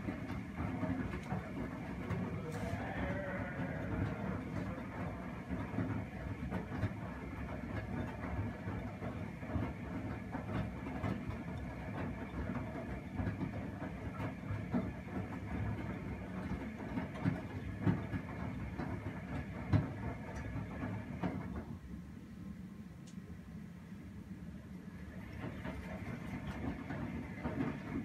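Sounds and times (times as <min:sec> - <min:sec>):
washing machine drum motor: 0:00.0 - 0:28.0.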